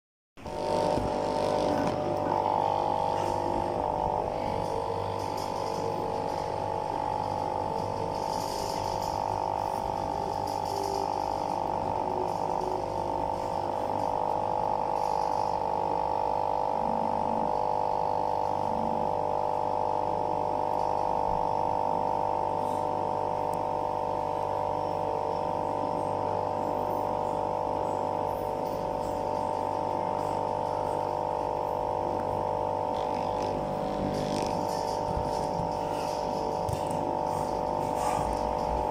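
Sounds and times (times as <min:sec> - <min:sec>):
low mains drone: 0:00.4 - 0:38.9
steady multi-tone hum: 0:00.4 - 0:38.9.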